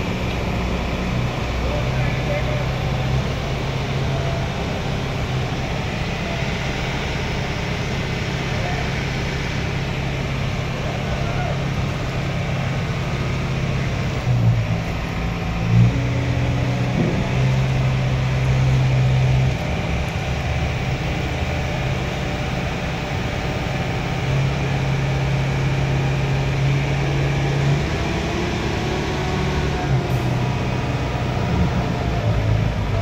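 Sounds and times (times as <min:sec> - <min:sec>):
crane diesel engine under load: 0:00.0 - 0:33.0.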